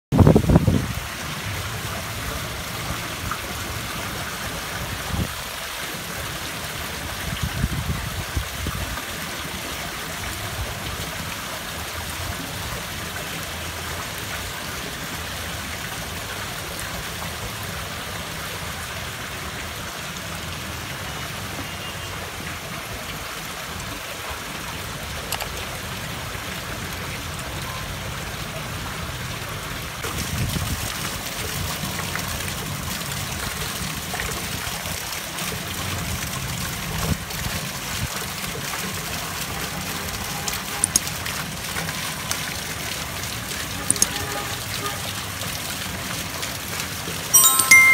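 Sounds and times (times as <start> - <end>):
water trickling into pond: 0.2 - 47.9.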